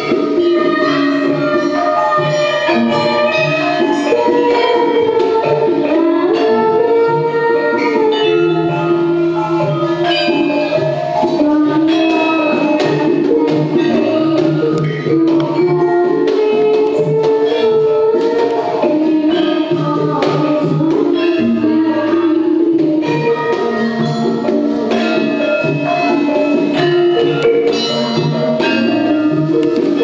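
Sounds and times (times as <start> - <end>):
girl singing into microphone: 0.0 - 30.0
hand drum strokes: 0.0 - 30.0
metal-keyed gamelan melody: 0.0 - 30.0.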